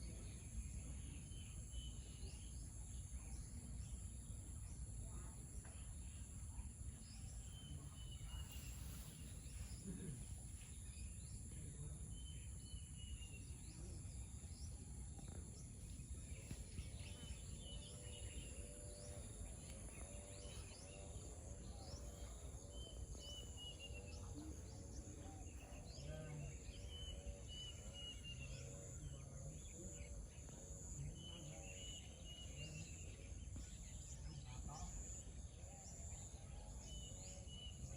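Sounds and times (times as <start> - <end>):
insect drone: 0.0 - 37.9
low repeated bird calls: 0.0 - 37.9.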